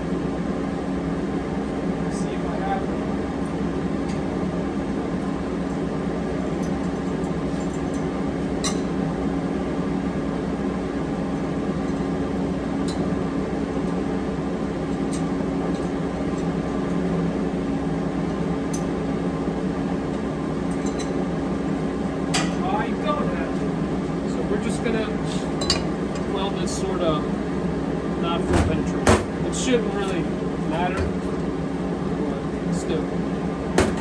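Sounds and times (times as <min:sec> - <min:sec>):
shop machinery humming: 0:00.0 - 0:34.0.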